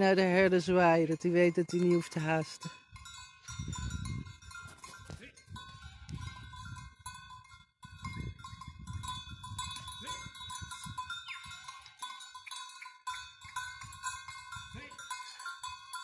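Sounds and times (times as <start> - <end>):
goat bells clanking: 0.0 - 16.0.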